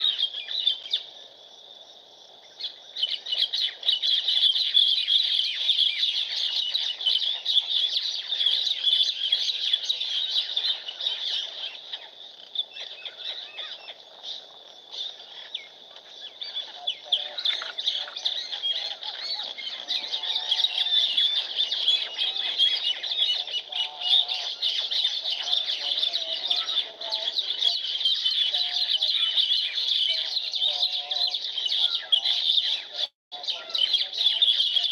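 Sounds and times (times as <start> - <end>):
small birds chirping: 0.0 - 34.9
lower-pitched bird calls: 2.7 - 34.9.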